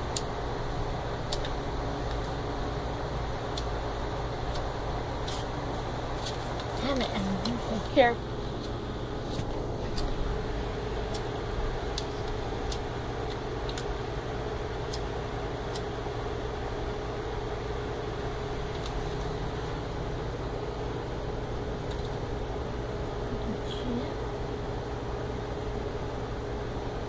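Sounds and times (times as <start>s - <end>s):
low hum and rumble: 0.0s - 27.0s.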